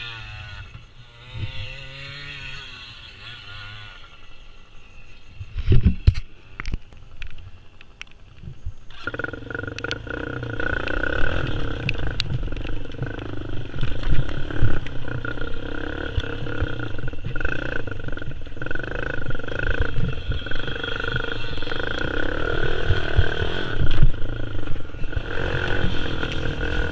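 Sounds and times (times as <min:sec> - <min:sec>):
quad bike engine droning: 0:00.0 - 0:26.9.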